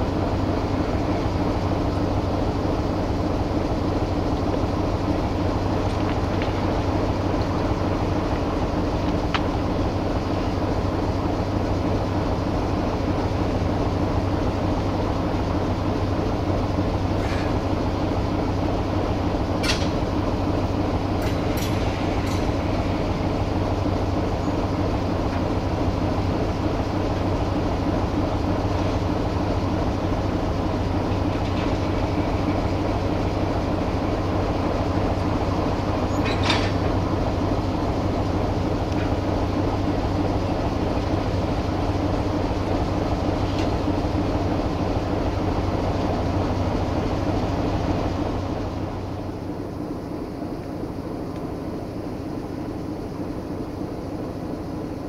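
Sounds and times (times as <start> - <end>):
locomotive engine running: 0.0 - 55.0.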